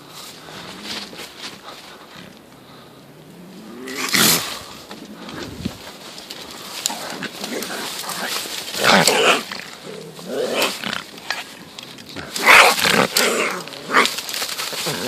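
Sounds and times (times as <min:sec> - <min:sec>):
bobcat growling and hissing: 0:00.4 - 0:15.0.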